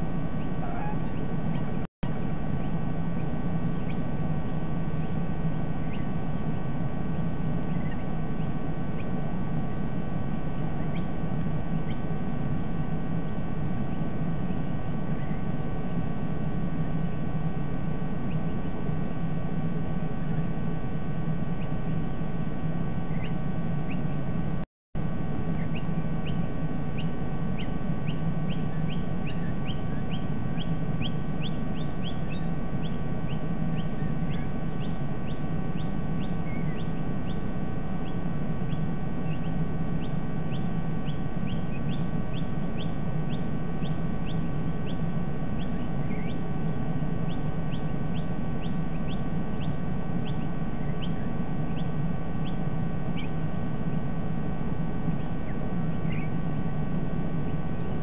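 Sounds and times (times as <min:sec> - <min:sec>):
constant low hum: 0:00.0 - 0:58.0.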